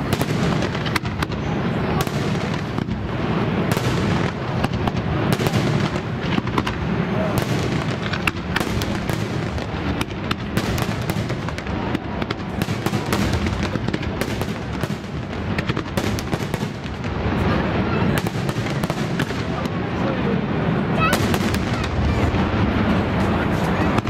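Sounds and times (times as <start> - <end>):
continuous low rumble: 0.0 - 24.0.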